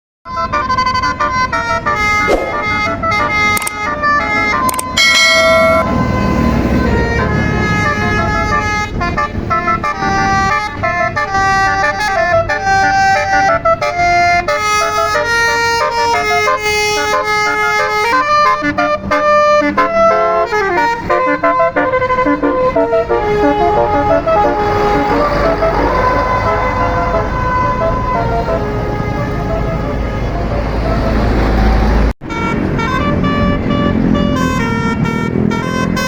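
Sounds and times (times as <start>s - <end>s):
multi-tone bus horn melody: 0.3s - 36.0s
engine rumbling: 0.6s - 16.0s, 20.8s - 36.0s.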